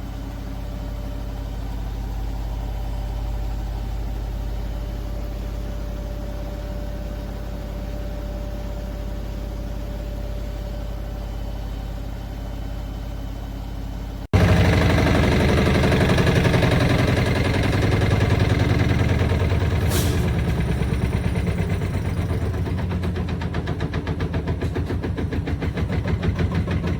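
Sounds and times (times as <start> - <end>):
washing machine running: 0.0 - 26.9.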